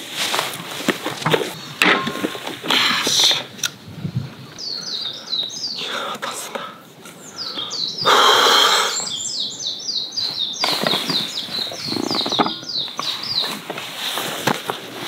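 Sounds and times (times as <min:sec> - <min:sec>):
songbird singing: 0:01.4 - 0:13.9.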